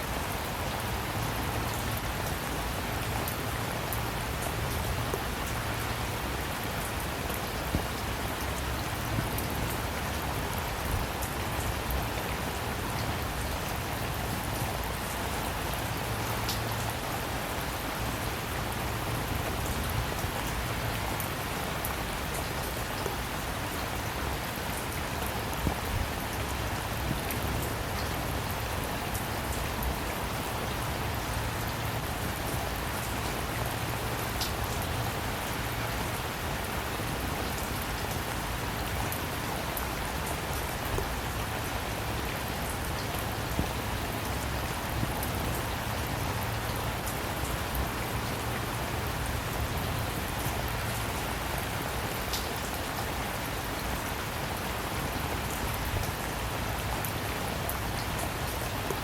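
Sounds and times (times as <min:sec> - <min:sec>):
rain falling: 0:00.0 - 0:59.0
raindrops ticking on a surface: 0:00.1 - 0:59.0.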